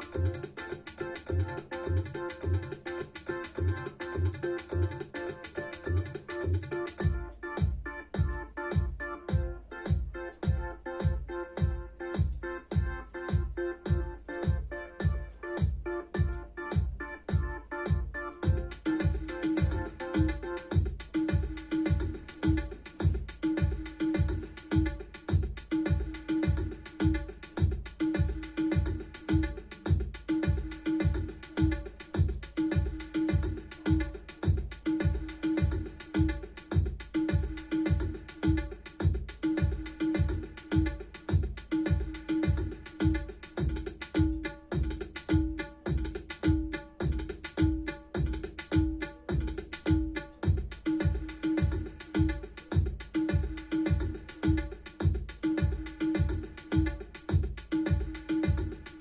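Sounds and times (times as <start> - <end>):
deep bass beat: 0.0 - 59.0
music with tabla and drums: 0.0 - 59.0.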